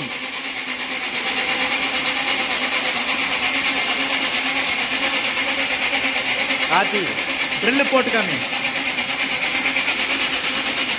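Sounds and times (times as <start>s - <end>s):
electric motor hum: 0.0s - 10.9s
power hacksaw blade rasping: 0.0s - 10.9s.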